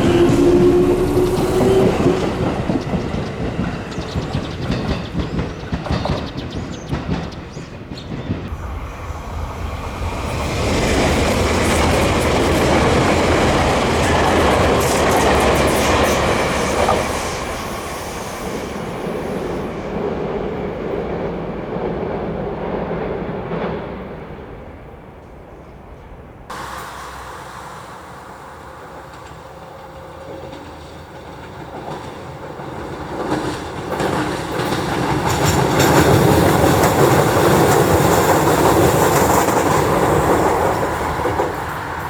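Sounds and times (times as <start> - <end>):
electric train passing: 0.0 - 42.0
rhythmic clickety-clack of train: 0.0 - 42.0.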